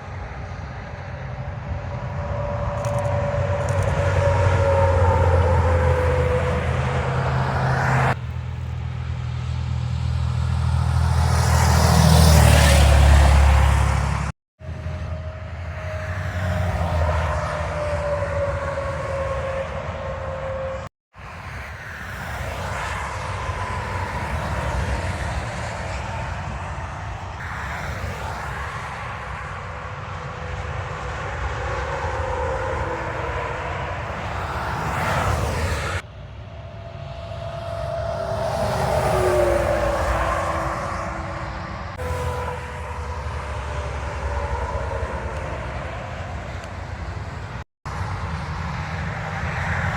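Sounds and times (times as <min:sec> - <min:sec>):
trucks passing on highway: 0:00.0 - 0:49.9
tyre and engine roar: 0:00.0 - 0:49.9.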